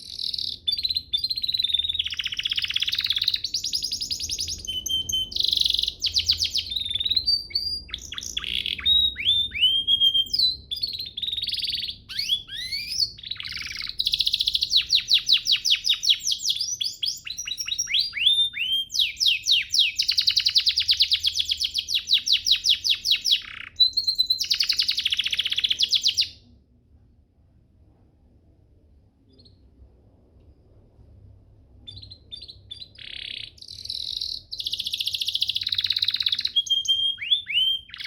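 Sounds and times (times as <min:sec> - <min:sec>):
canary singing trills: 0:00.0 - 0:26.5, 0:29.3 - 0:29.8, 0:31.7 - 0:38.0.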